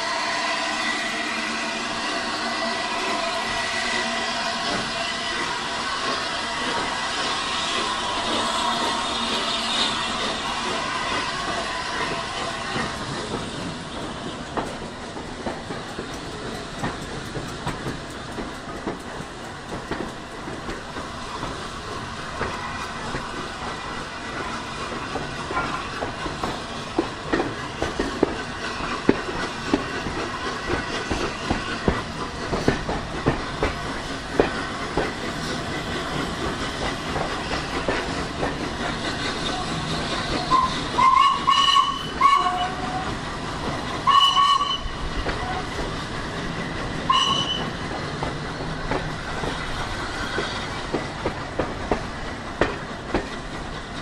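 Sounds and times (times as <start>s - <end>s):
train rumble: 0.0s - 54.0s
wheels clicking over rail joints: 10.2s - 54.0s.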